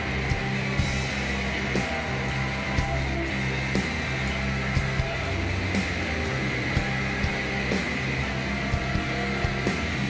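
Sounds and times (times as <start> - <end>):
droning guitars and bass: 0.0 - 10.0
rock band playing: 0.0 - 10.0.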